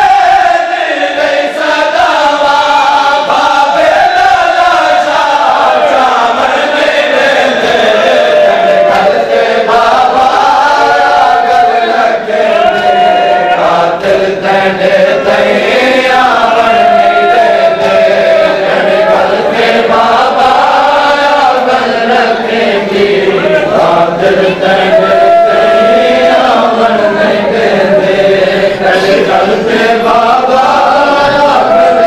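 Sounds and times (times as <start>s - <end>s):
men chanting in unison: 0.0s - 32.0s.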